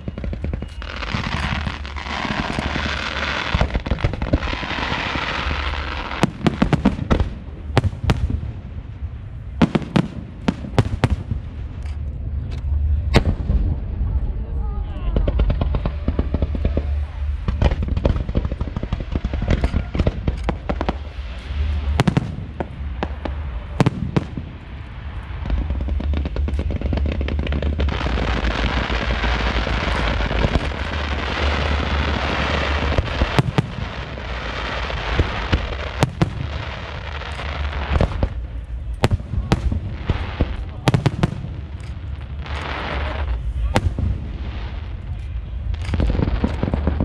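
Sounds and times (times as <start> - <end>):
fireworks crackling hiss: 0.0 - 13.8, 15.1 - 47.0
fireworks bangs: 0.0 - 47.0.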